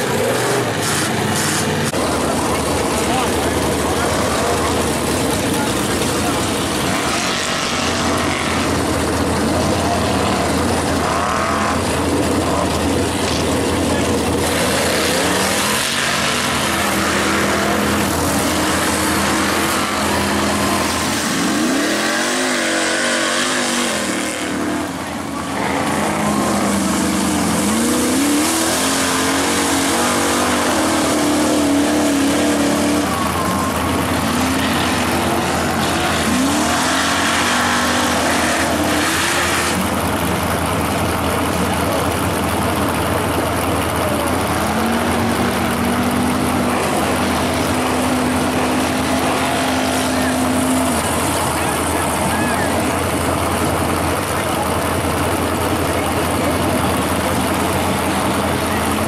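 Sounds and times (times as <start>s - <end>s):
truck engine racing: 0.0s - 59.0s.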